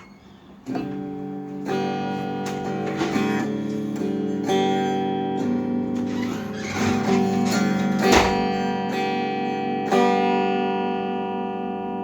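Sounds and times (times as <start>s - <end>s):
guitar chords strummed: 0.0s - 12.0s.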